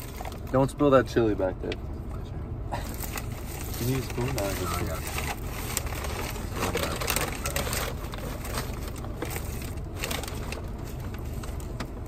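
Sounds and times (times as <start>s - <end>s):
paper bag and wrappers rustling: 0.0s - 0.8s, 2.8s - 12.0s.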